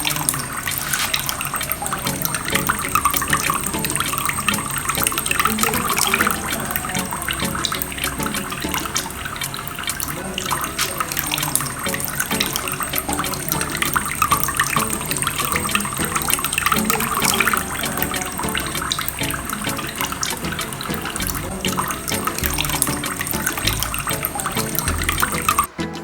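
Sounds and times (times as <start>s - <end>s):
water trickling and splashing: 0.0s - 25.8s.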